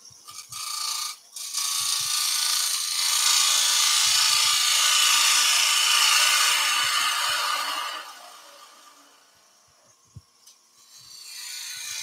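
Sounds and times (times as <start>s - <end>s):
gouge cutting wood on a lathe: 0.3s - 9.0s, 10.8s - 12.0s.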